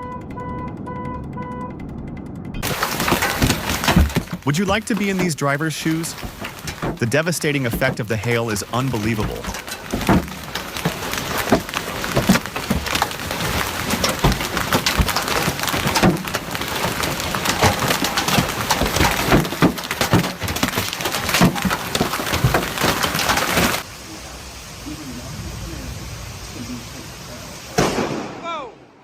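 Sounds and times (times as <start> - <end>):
hailstones pelting hard surfaces: 2.6 - 28.3.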